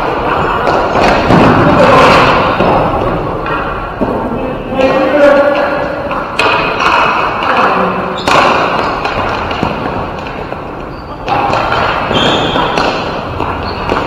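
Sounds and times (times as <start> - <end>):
ball hockey game noise: 0.0 - 14.0.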